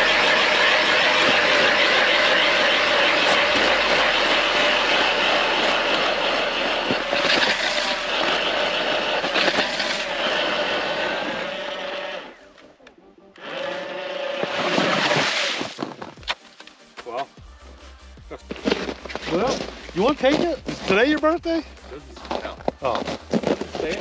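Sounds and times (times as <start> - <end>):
power ice auger boring ice: 0.0 - 12.4, 13.4 - 16.4, 18.5 - 24.0.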